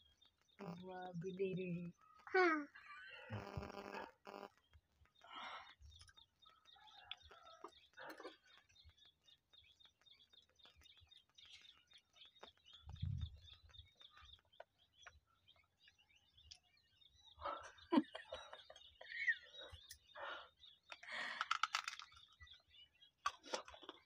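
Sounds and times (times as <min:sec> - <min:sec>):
faint bird chirps: 0:00.0 - 0:24.0.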